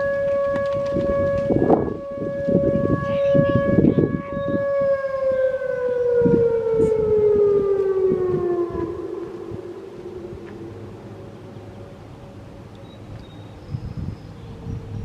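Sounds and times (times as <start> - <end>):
outdoor warning siren winding down: 0.0 - 13.6, 14.3 - 15.0.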